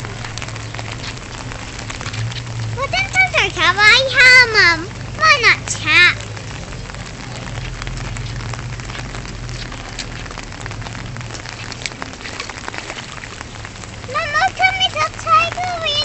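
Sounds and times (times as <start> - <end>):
water drips and splashes: 0.0 - 16.0.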